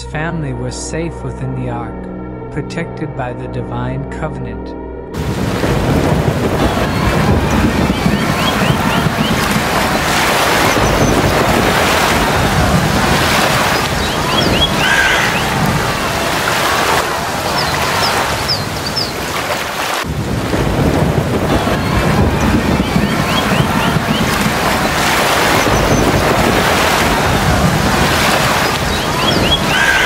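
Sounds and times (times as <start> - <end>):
waves: 5.2 - 30.0
wind: 5.2 - 30.0.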